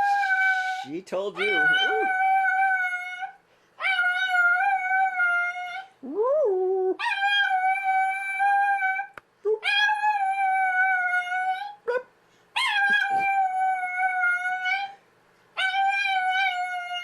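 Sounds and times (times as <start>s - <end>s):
dog howling: 0.0s - 11.8s, 12.6s - 15.0s, 15.6s - 17.0s.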